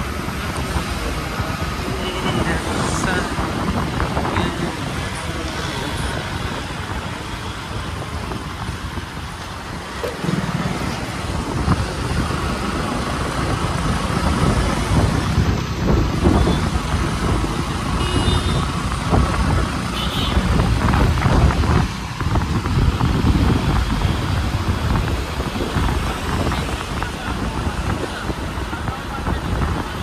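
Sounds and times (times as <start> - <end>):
motorbike road noise: 0.0 - 30.0
wind rumbling on microphone: 0.0 - 30.0.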